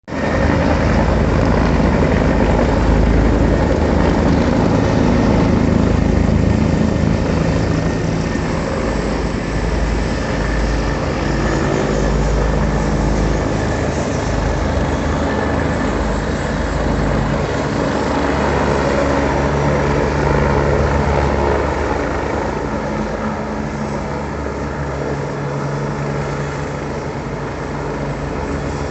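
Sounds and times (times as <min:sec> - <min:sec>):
helicopter flying close: 0:00.1 - 0:28.9.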